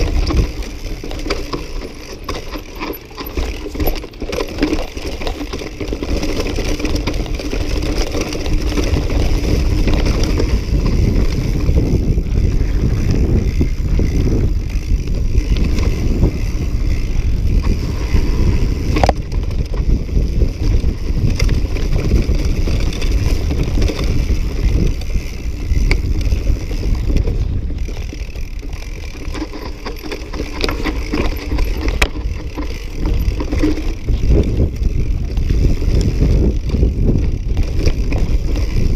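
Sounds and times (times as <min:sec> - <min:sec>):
bike knocking on rocks: 0:00.0 - 0:38.9
bike rattling: 0:00.0 - 0:38.9
tyres rolling on dirt and rock: 0:00.0 - 0:38.9
wind rumble on microphone: 0:00.0 - 0:38.9.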